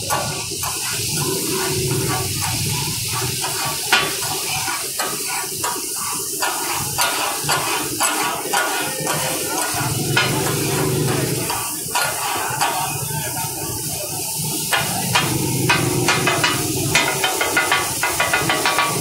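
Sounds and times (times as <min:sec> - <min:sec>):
frying oil sizzling: 0:00.0 - 0:19.0
spatulas clacking on a griddle: 0:00.0 - 0:19.0.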